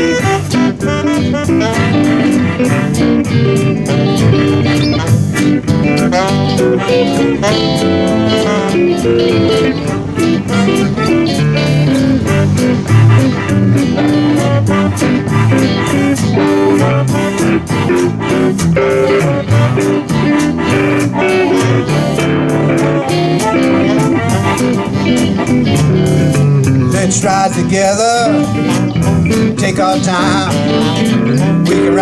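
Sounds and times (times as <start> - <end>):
bass and drums: 0.0 - 32.0
electric guitar lead: 0.0 - 32.0.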